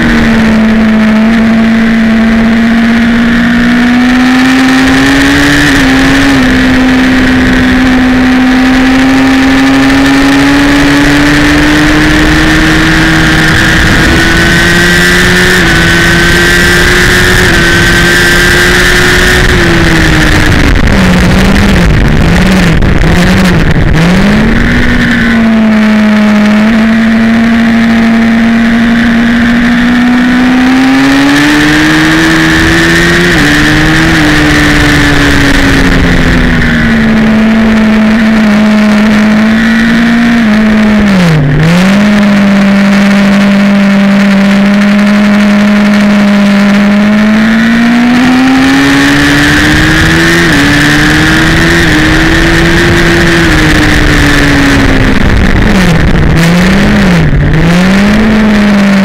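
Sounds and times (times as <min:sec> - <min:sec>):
wind rush: 0:00.0 - 0:44.2, 0:46.5 - 0:59.0
motorcycle engine revving high: 0:00.0 - 0:59.0.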